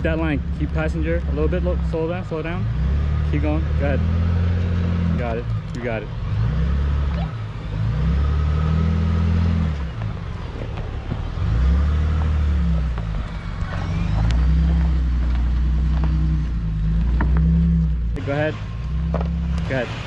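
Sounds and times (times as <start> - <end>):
pickup engine rumbling: 0.0 - 20.0.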